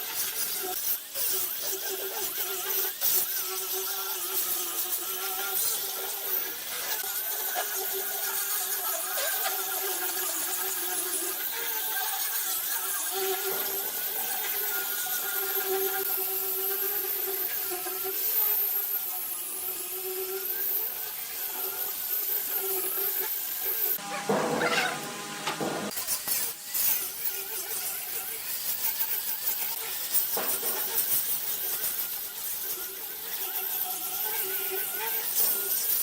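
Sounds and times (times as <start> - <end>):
power tool motor whining: 0.0 - 36.0.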